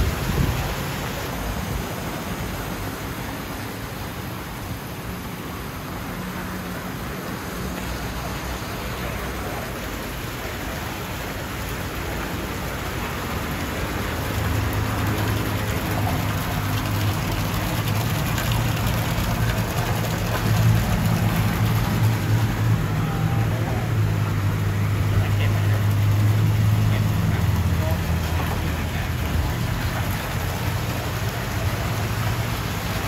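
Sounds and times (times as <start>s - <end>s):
water splashing and bubbling: 0.0s - 33.0s.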